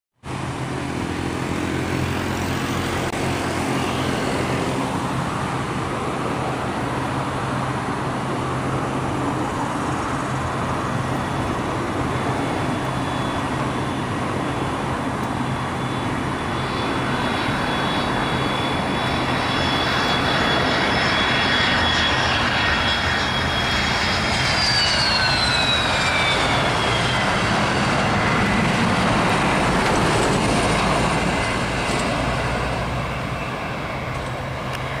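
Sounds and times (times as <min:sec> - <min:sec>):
jet engines rushing and whining: 0:00.2 - 0:35.0.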